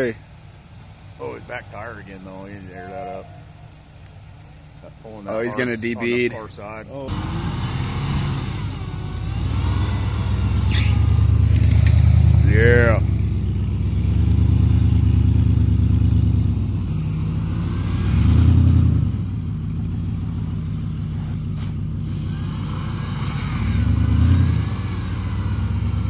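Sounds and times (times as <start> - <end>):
vehicle engines revving: 0.0 - 26.0.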